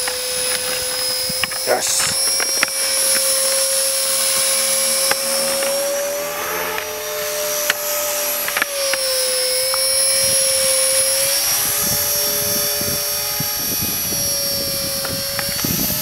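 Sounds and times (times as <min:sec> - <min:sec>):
rc helicopter buzzing whine: 0:00.0 - 0:16.0.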